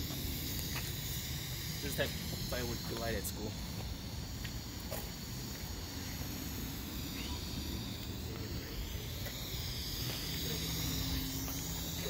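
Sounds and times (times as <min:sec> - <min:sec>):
constant low rumble: 0:00.0 - 0:12.0
smoke firework hissing: 0:00.0 - 0:12.0.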